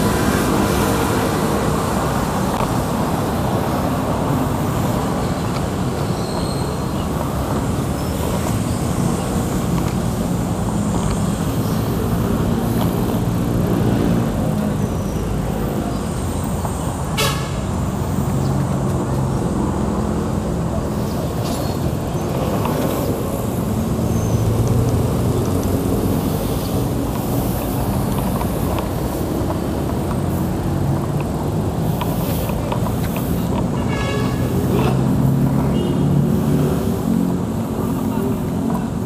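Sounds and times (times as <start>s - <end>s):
road noise rumble: 0.0s - 39.0s
vehicle engines: 0.0s - 39.0s.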